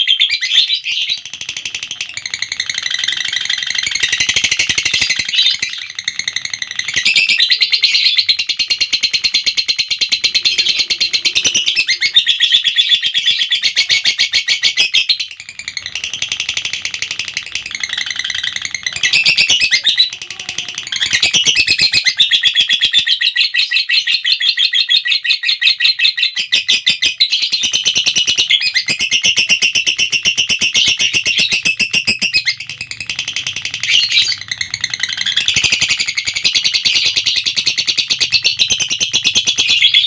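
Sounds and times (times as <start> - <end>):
lovebird chattering trill: 0.4 - 40.0.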